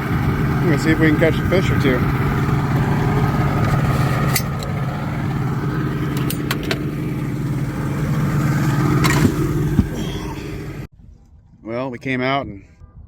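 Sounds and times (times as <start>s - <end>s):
outboard motor running: 0.0s - 10.9s.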